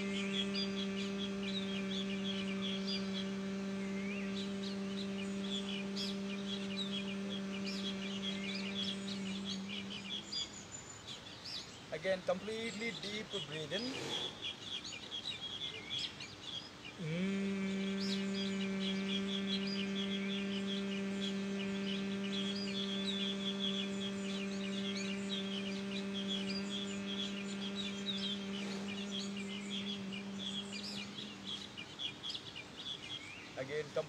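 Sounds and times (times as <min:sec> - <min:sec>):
man humming a steady note: 0:00.0 - 0:10.8, 0:12.0 - 0:14.1, 0:17.0 - 0:32.3
birds chirping: 0:00.0 - 0:34.0.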